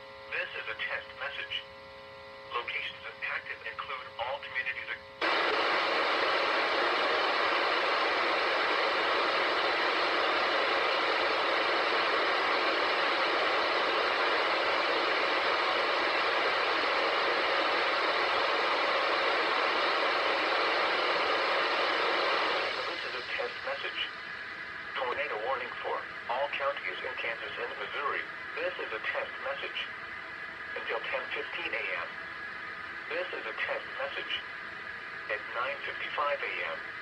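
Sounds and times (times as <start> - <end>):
radio static hiss: 0.0 - 1.8, 2.4 - 37.0.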